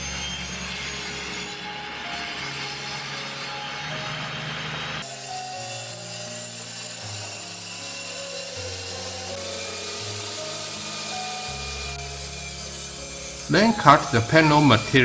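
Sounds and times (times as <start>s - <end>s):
table saw cutting plywood: 0.0s - 15.0s.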